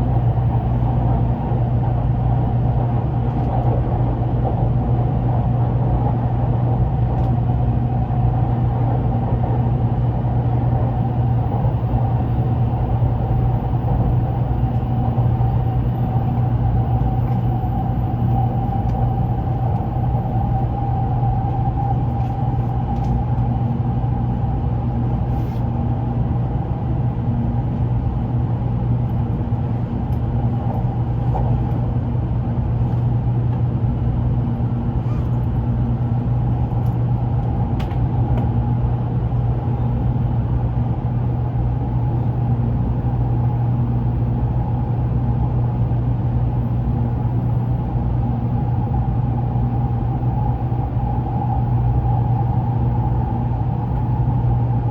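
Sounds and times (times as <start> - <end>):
steady higher hum: 0.0 - 54.9
train car rumble: 0.0 - 54.9.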